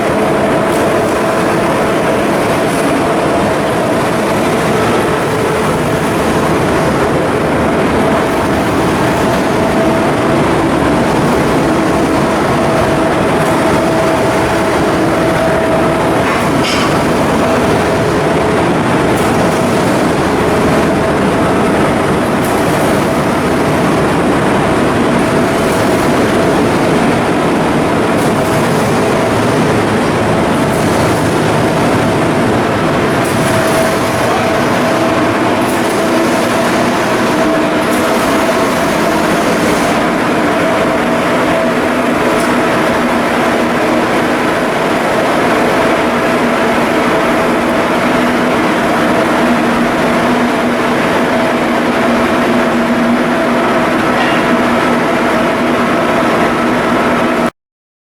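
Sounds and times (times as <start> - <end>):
loud machinery hum: 0.0 - 57.5.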